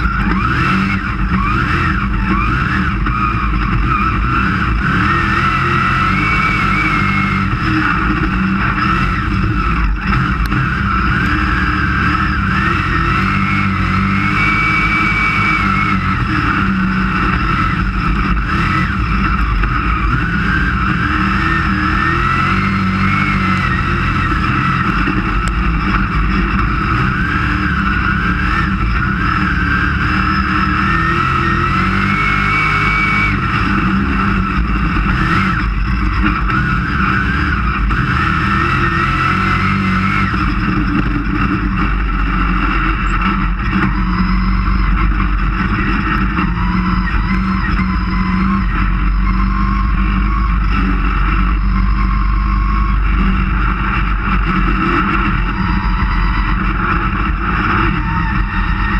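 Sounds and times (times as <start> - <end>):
race car engine running hard: 0.0 - 58.9.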